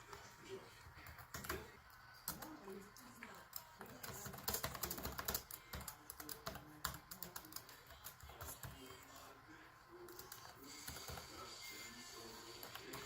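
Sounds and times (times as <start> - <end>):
laptop keyboard typing: 0.0 - 9.3, 10.0 - 13.0.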